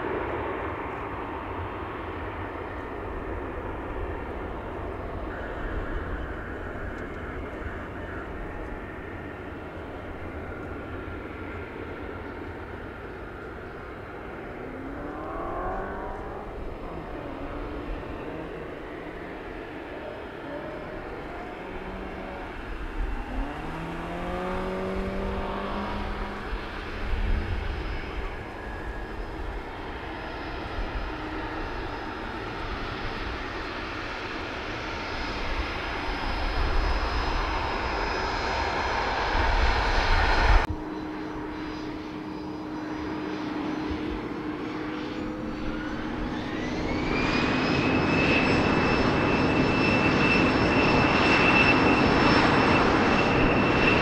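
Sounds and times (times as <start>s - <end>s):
distant jet engine rumble: 0.0s - 54.0s
jet engine whine: 0.0s - 54.0s.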